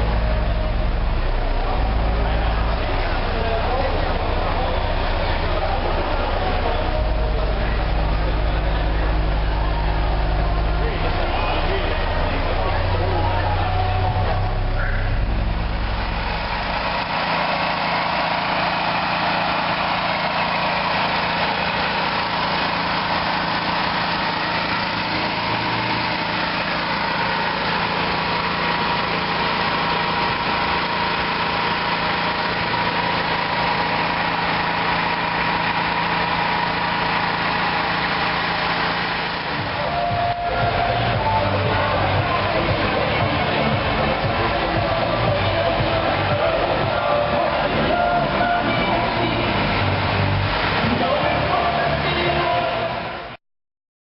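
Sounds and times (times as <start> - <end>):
deep bass tone: 0.0 - 53.4
vehicle engine idling: 0.0 - 53.4.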